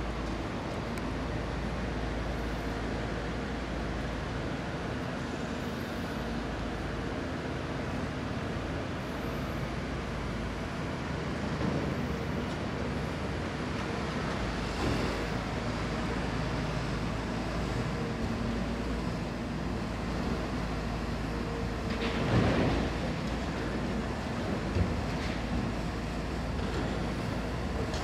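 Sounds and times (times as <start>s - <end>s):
excavator engine droning: 0.0s - 28.0s.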